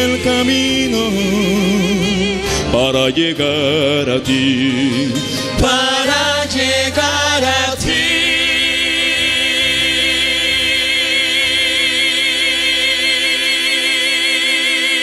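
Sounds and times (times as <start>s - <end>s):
vocal trio singing sustained chord: 0.0s - 15.0s.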